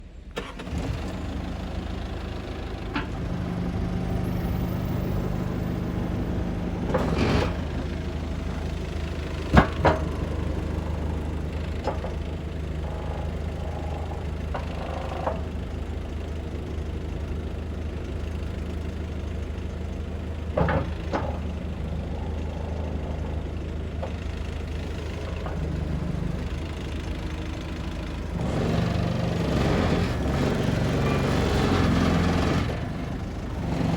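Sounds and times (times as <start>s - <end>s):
bulldozer diesel engine idling: 0.0s - 33.9s.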